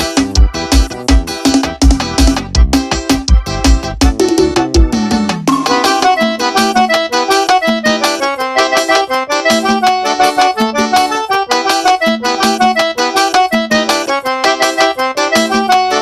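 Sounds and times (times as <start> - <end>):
accordion playing quick runs: 0.0 - 16.0
instrumental backing track: 0.0 - 16.0.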